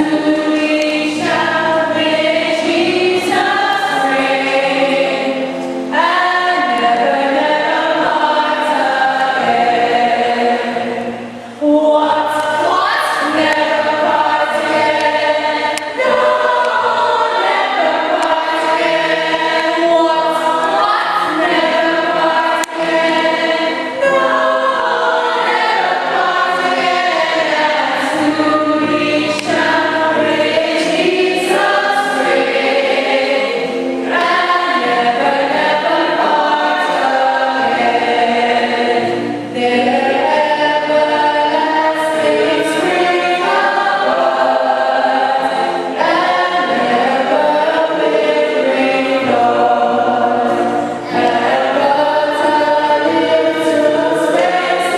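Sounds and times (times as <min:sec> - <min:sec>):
choir singing a hymn: 0:00.0 - 0:54.9.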